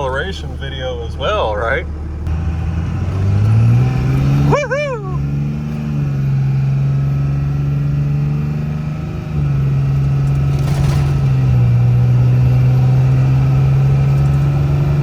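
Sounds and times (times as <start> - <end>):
vehicle engine accelerating hard: 0.0 - 15.0.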